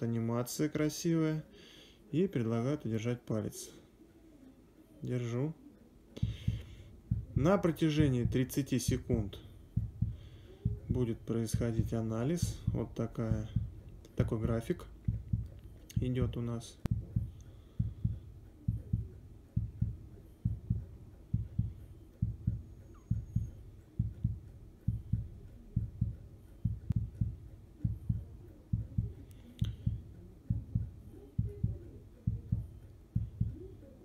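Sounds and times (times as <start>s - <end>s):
heartbeat double thumps: 6.2s - 34.0s.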